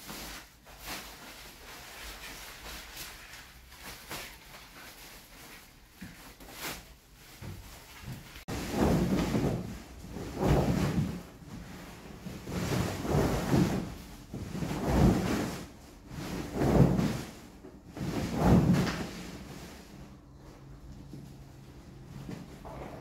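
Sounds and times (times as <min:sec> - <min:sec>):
rug being shaken and flapping: 0:00.0 - 0:23.0.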